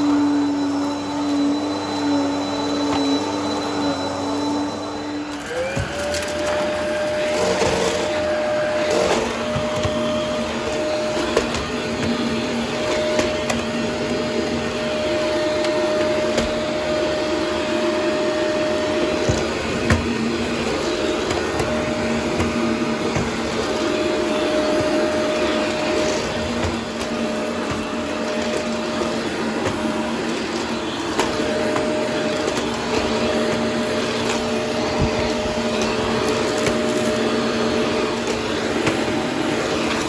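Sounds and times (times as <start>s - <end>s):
vacuum cleaner motor whine: 0.0s - 40.0s.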